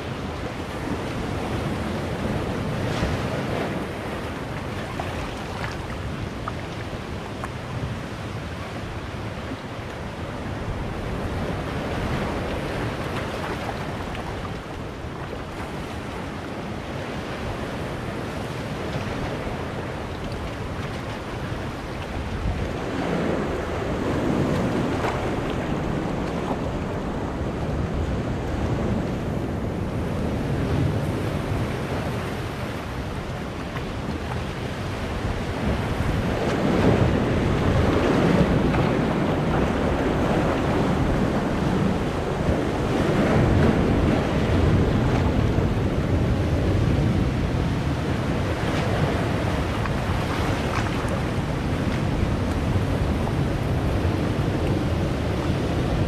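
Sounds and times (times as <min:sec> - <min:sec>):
waves washing among boulders: 0:00.0 - 0:56.0.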